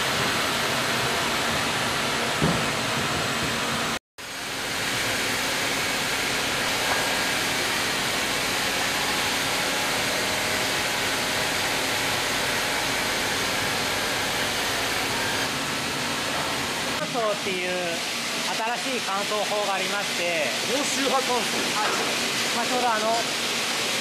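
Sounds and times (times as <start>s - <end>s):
sawmill machinery running: 0.0s - 24.0s.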